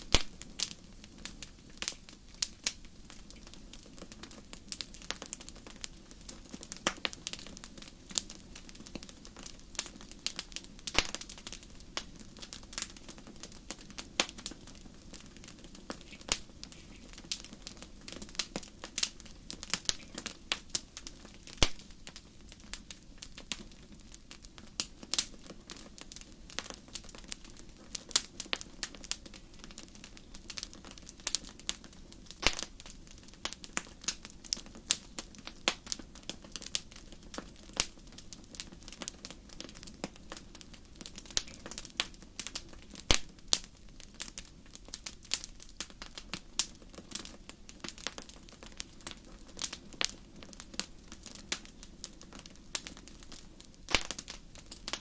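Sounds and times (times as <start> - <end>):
fire snaps and pops: 0.0 - 55.0
low rumble of flames: 0.0 - 55.0.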